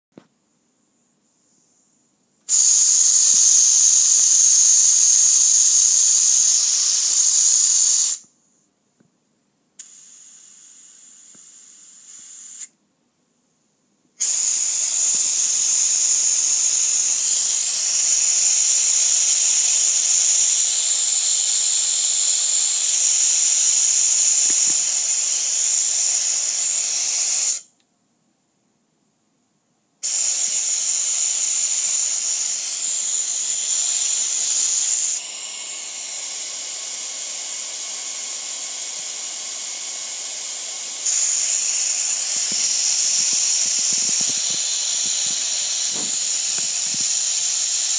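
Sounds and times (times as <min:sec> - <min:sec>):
dental suction hiss: 0:02.4 - 0:08.3, 0:09.8 - 0:12.7, 0:14.2 - 0:27.7, 0:30.0 - 0:47.9.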